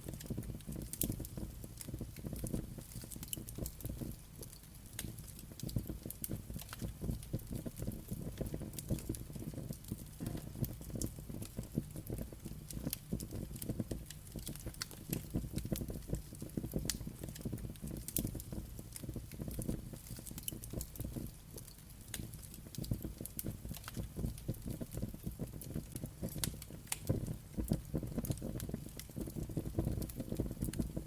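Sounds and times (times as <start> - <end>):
fire crackling and popping: 0.0 - 31.0
rumble of flames: 0.0 - 31.0.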